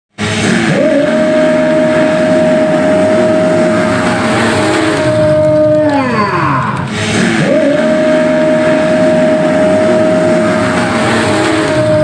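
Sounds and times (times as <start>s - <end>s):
motocross engine revving: 0.1s - 12.0s
other motorbike engines: 0.1s - 12.0s.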